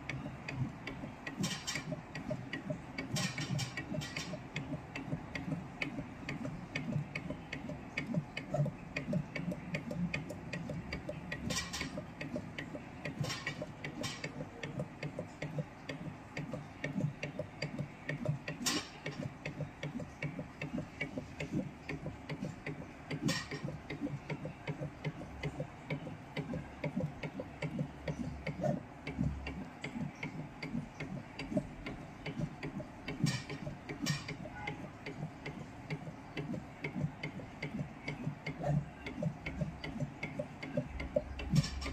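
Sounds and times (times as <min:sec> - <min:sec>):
machine ticking: 0:00.0 - 0:41.9
sharp machine clicks: 0:00.0 - 0:41.9.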